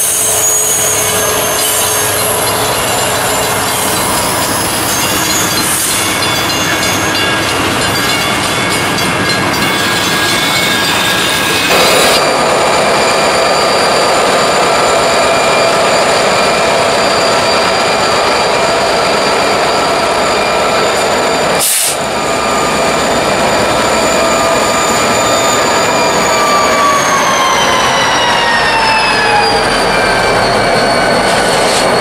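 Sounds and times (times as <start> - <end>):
diesel locomotives running: 0.0 - 32.0
train wheels squealing and clacking: 0.0 - 32.0.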